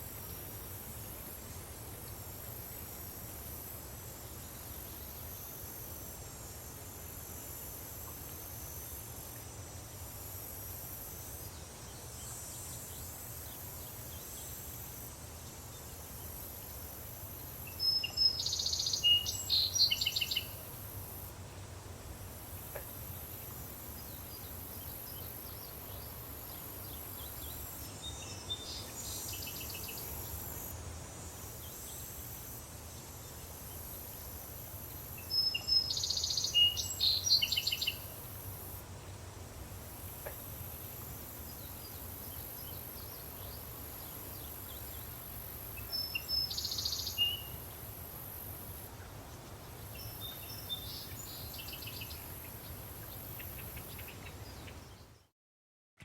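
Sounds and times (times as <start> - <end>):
high insect drone: 0.0 - 54.1.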